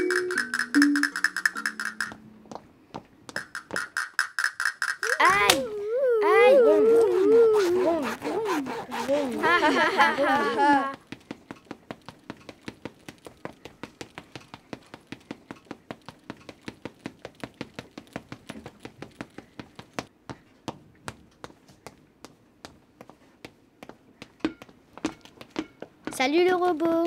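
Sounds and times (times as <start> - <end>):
light footsteps tapping: 0.1 - 4.9, 9.3 - 27.0.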